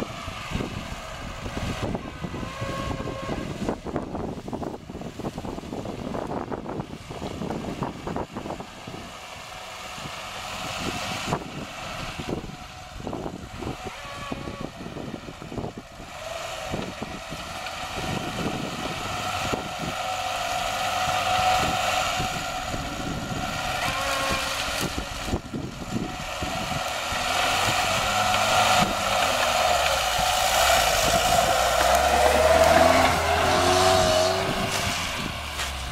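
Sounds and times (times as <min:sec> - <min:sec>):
car engine running hard: 0:00.0 - 0:35.9.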